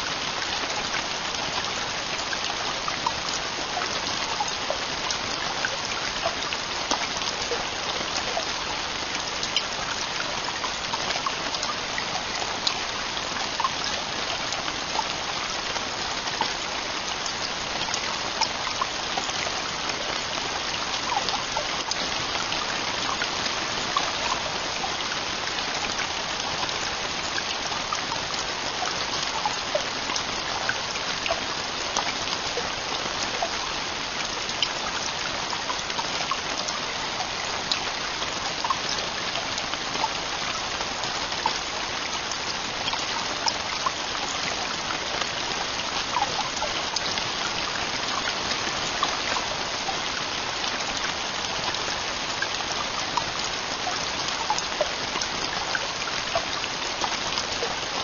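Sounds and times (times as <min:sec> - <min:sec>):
heavy rain on a tent roof: 0:00.0 - 0:58.0.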